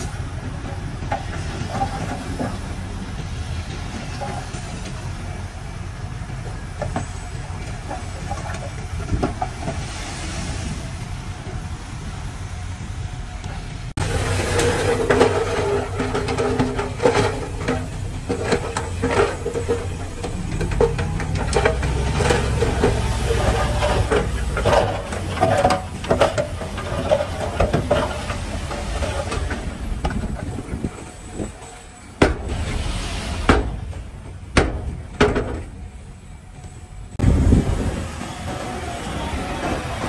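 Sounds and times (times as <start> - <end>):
bulldozer diesel engine running: 0.0 - 40.0
constant squeal: 0.0 - 40.0
metallic clanks from steel tracks: 0.0 - 40.0.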